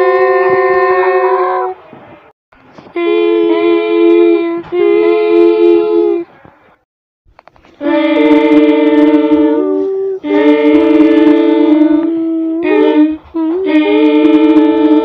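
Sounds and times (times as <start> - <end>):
person imitating train horn: 0.0 - 1.8, 3.0 - 6.3, 7.8 - 15.0.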